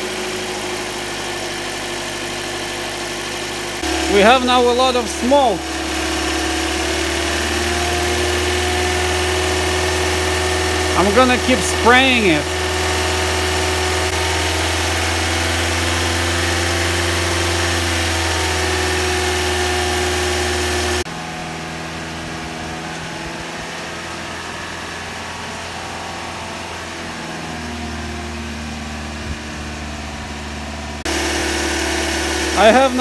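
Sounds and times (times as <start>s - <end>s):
car engine running at raised idle: 0.0s - 33.0s.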